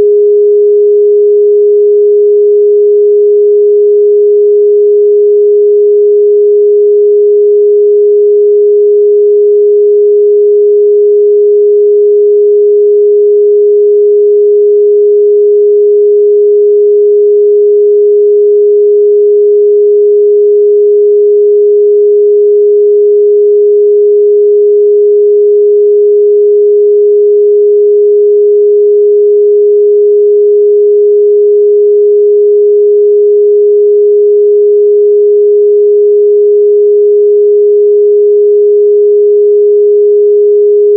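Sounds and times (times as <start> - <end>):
sine wave test tone: 0.0 - 40.9.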